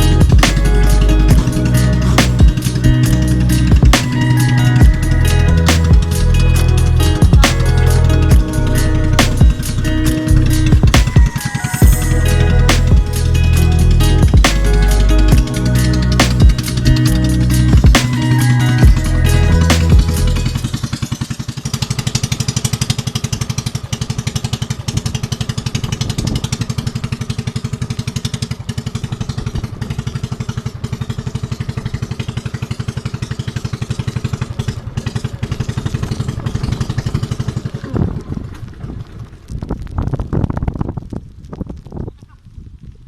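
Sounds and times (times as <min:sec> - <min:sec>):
small engine running: 0:00.0 - 0:39.6.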